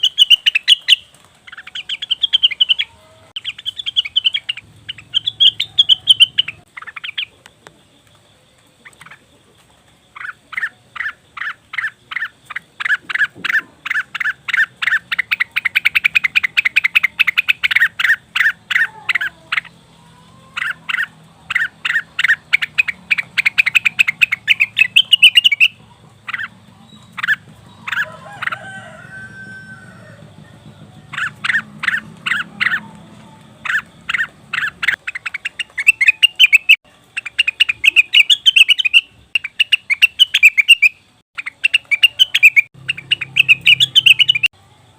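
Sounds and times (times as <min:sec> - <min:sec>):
leafbird song: 0:00.0 - 0:44.9.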